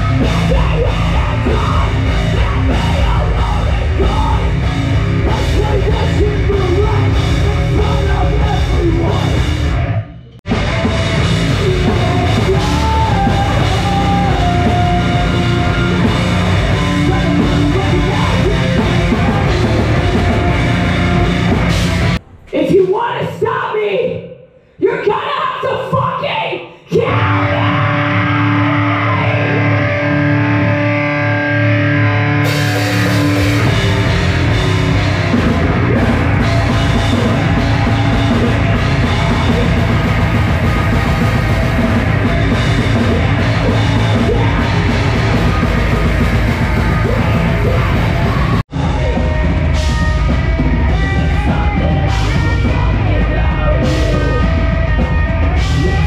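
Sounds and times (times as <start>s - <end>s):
heavy metal band music: 0.0s - 24.2s, 26.9s - 56.0s.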